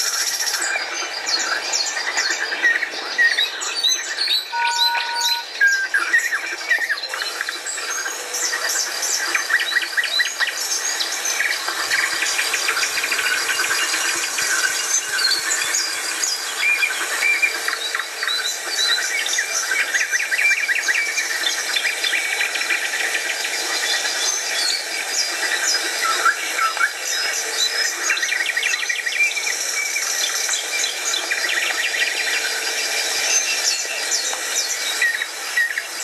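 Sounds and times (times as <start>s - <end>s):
songbirds singing: 0.0s - 36.0s.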